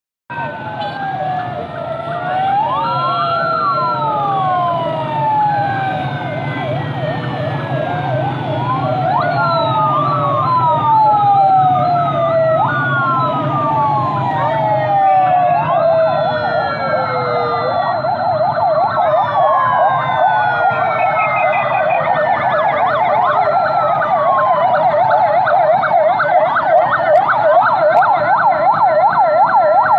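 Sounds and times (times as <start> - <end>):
low rumble of engines: 0.3 - 29.9
police sirens wailing: 0.3 - 29.9
siren yelping warbles: 0.3 - 29.9.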